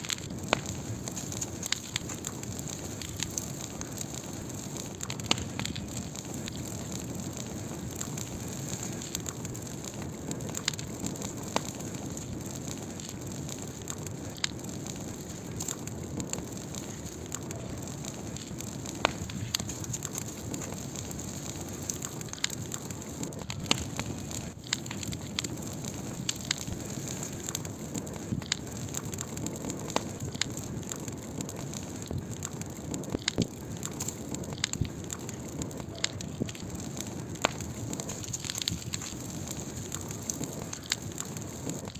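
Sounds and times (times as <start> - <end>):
crackles and pops of burning wood: 0.0 - 41.9
low rush of flame: 0.0 - 41.9.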